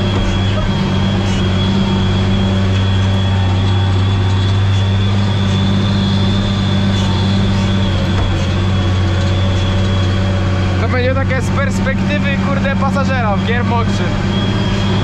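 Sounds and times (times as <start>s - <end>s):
steady high whine: 0.0s - 15.0s
tractor engine deep hum: 0.0s - 15.0s.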